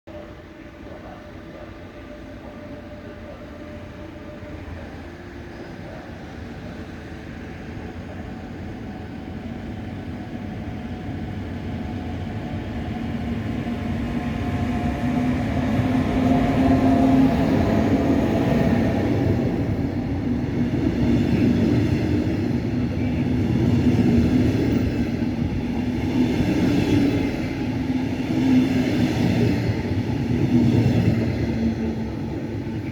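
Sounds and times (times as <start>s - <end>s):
train passing: 0.1s - 32.9s.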